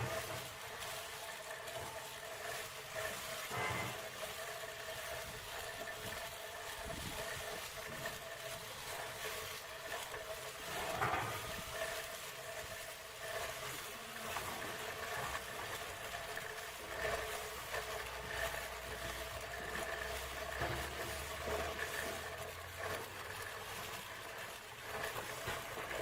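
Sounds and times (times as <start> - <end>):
electric shearing handpiece whining: 0.0 - 26.0.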